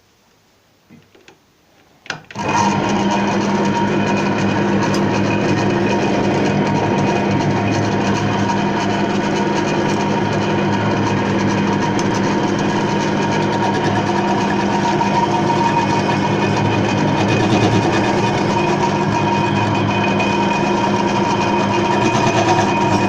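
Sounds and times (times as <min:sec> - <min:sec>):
lathe high whine: 0:02.3 - 0:23.0
lathe motor hum: 0:02.3 - 0:23.0.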